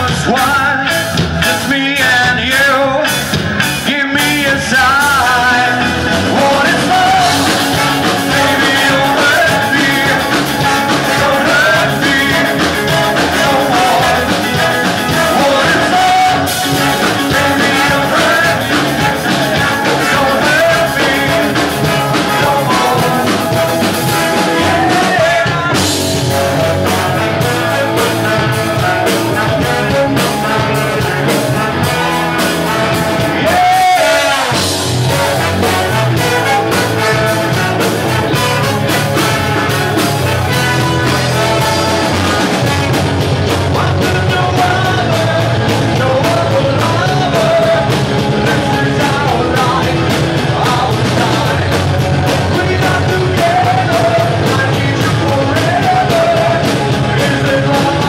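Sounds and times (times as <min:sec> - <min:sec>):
man singing: 0:00.0 - 0:58.0
rock band with horn section: 0:00.0 - 0:58.0.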